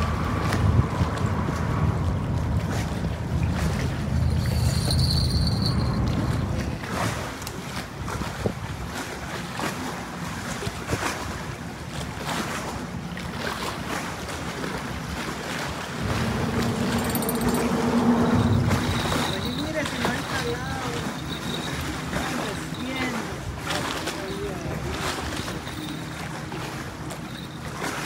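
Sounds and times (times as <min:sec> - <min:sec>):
wind buffeting the microphone: 0:00.0 - 0:12.7, 0:13.3 - 0:25.8
water: 0:00.0 - 0:28.0.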